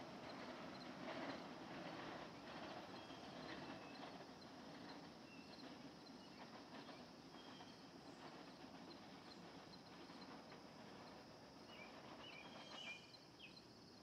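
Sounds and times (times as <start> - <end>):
streetcar wheels on rails: 0.0 - 14.0.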